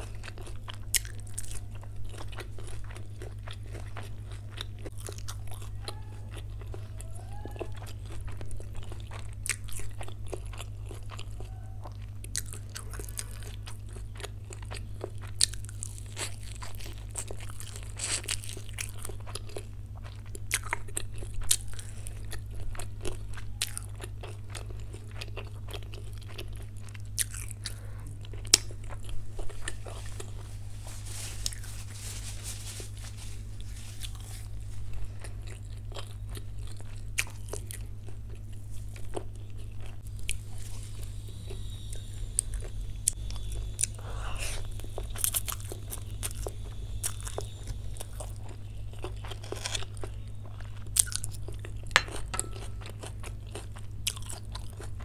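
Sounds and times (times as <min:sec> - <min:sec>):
chewing and crunching: 0:00.0 - 0:55.0
steady low hum: 0:00.0 - 0:55.0.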